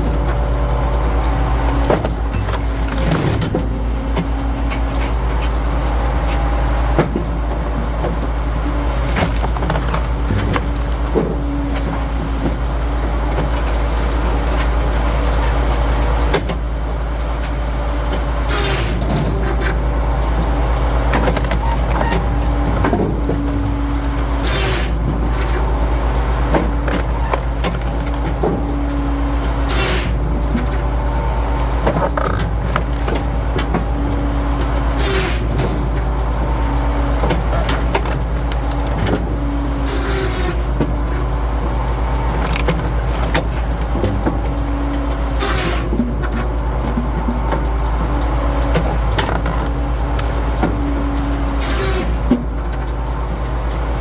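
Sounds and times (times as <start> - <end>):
engine droning: 0.0 - 54.0
hydraulics cycling: 0.0 - 54.0.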